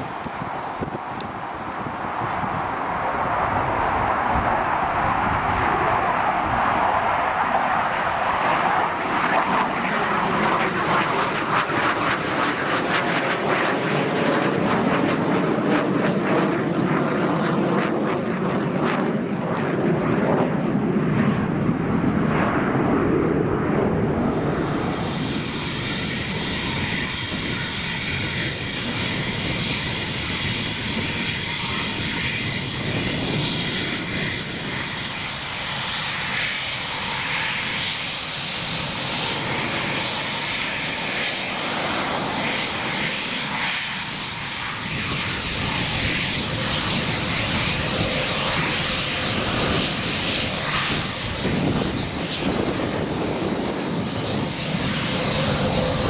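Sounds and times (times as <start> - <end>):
jet engines whining: 0.0 - 16.1, 19.0 - 56.0.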